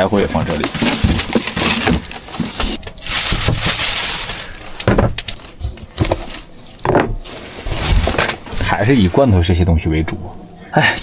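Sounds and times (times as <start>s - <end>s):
crinkling and rustling: 0.0s - 9.3s.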